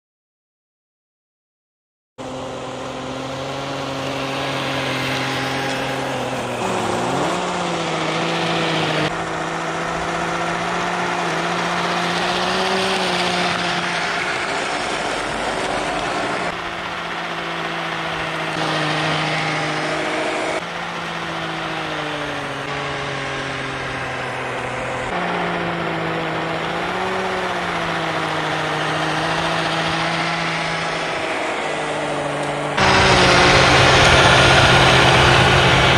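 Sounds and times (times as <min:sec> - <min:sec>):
electric motor whine: 0:02.2 - 0:35.9.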